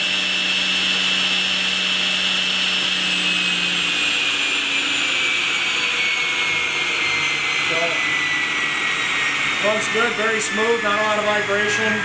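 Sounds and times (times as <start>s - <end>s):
table saw running: 0.0s - 12.0s.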